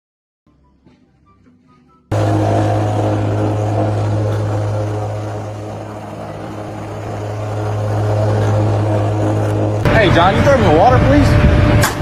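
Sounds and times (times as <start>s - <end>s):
machine humming: 0.9s - 12.0s.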